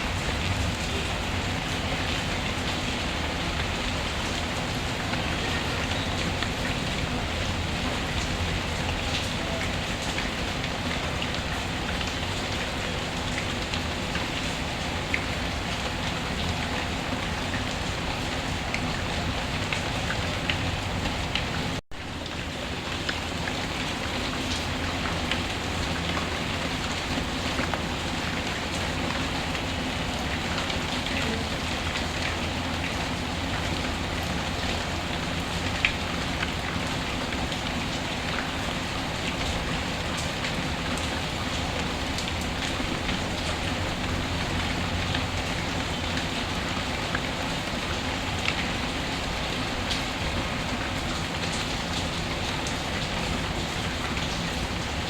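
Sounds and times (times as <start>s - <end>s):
rain falling on a surface: 0.0s - 55.0s.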